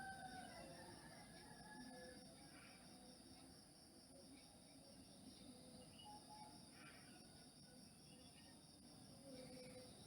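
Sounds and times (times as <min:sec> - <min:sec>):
faint high-pitched hiss: 0:00.0 - 0:10.0.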